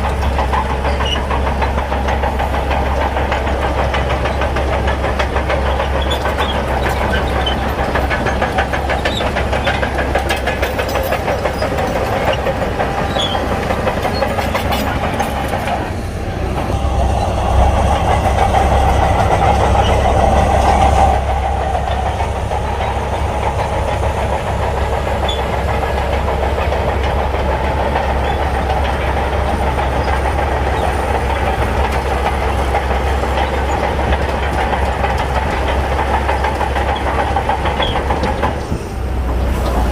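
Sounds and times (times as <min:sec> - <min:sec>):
bulldozer diesel engine under load: 0:00.0 - 0:39.9
steel tracks clanking: 0:00.0 - 0:39.9.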